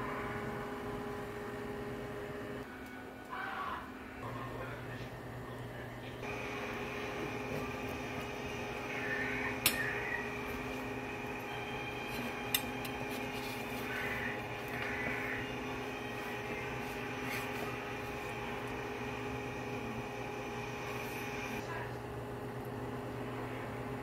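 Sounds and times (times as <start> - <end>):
appliance motor humming: 4.2 - 24.0.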